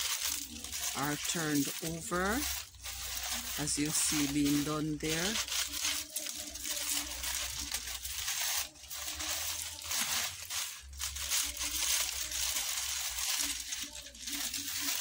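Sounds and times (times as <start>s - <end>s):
dry palm strips rustling: 0.0s - 15.0s.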